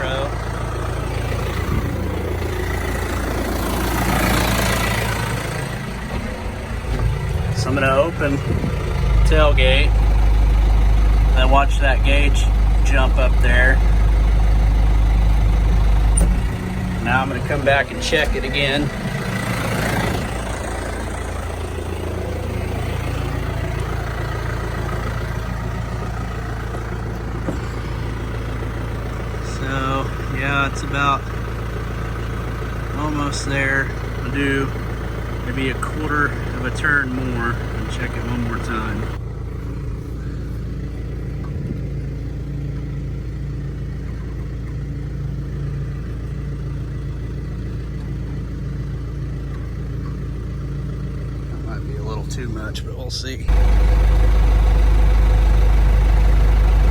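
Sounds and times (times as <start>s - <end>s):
tractor diesel engine idling: 0.0s - 56.9s.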